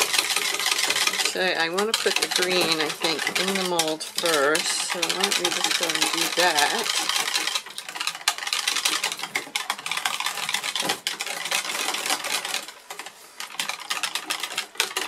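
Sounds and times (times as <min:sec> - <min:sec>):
whisk clicking in plastic jug: 0:00.0 - 0:15.0.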